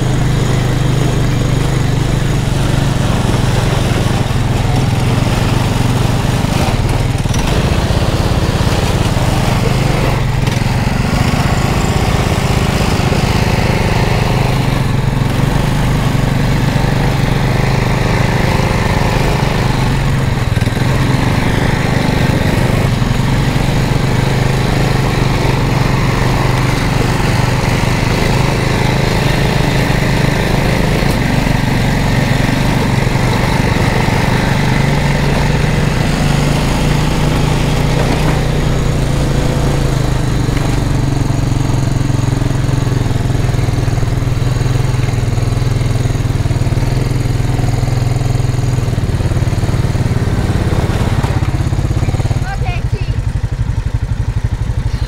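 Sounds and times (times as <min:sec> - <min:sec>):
small vehicle engine running: 0:00.0 - 0:55.0.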